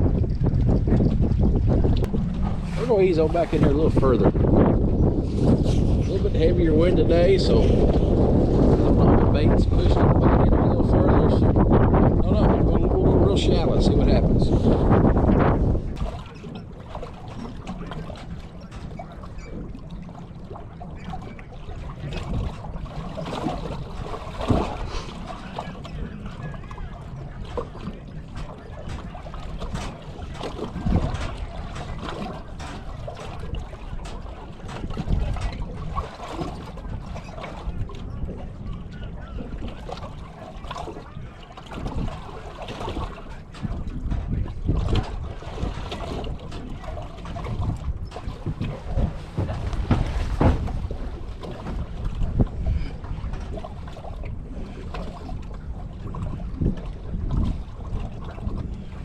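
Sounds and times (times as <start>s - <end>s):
water lapping against boat hull: 0.0s - 59.0s
wind: 0.0s - 59.0s.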